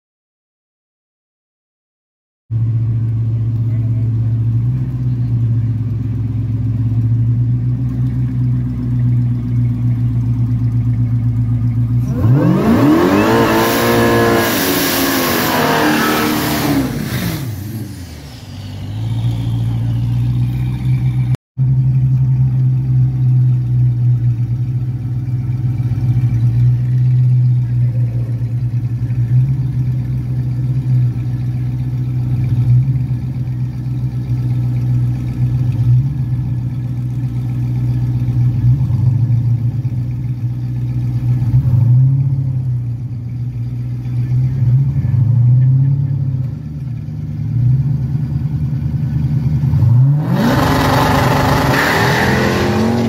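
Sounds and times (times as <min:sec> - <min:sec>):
car engine idling and revving: 0:02.5 - 0:53.0.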